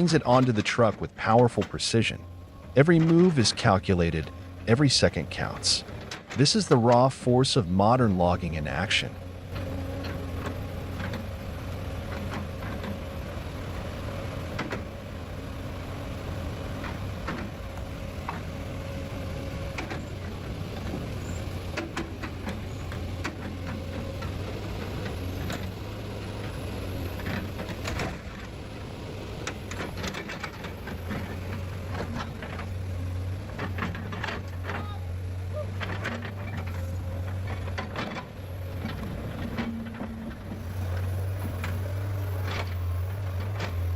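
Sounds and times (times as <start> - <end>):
loader engine running: 0.0 - 43.9.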